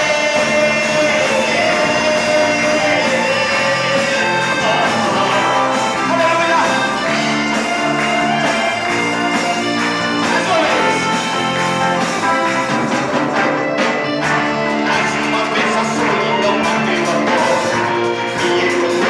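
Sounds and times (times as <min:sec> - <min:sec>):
people singing: 0:00.0 - 0:11.3, 0:14.4 - 0:19.0.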